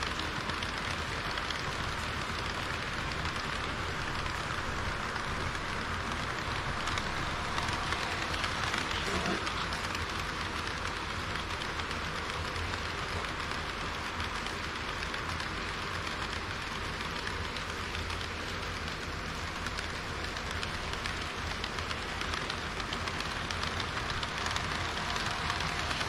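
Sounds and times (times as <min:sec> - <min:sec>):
model train wheels rattling on rails: 0:00.0 - 0:26.0.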